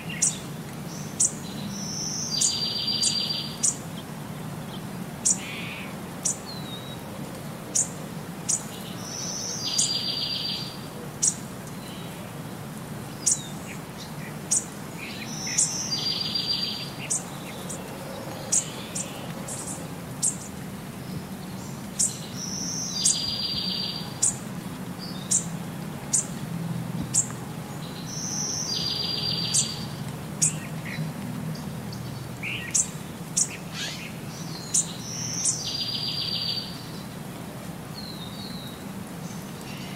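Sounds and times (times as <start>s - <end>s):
birds chirping: 0.0s - 12.4s, 13.0s - 37.2s.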